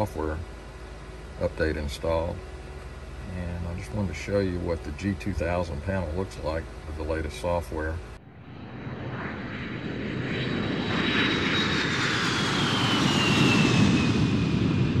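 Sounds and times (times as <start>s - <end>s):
airplane engine rush: 0.0s - 15.0s
high whine falling in pitch: 1.4s - 13.8s.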